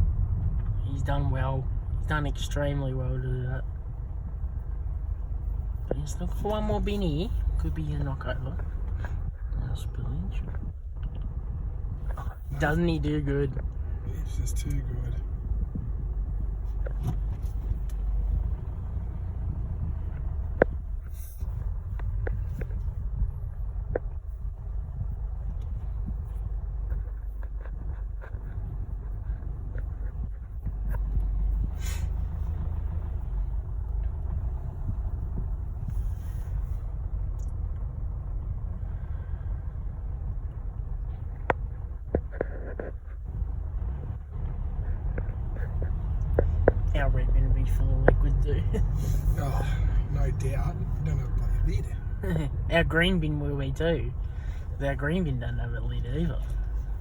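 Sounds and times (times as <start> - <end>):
road noise: 0.0 - 57.0
vehicle engine rumble: 0.0 - 57.0.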